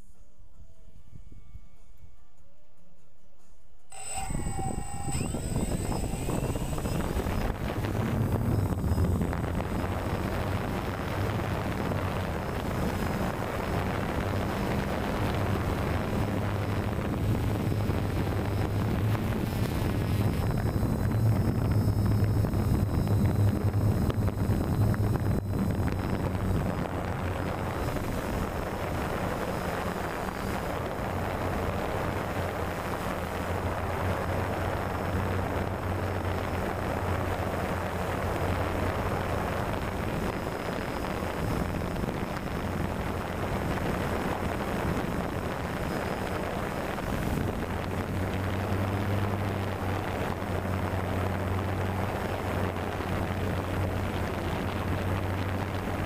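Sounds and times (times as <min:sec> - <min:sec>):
drone propellers humming: 0:03.9 - 0:56.0.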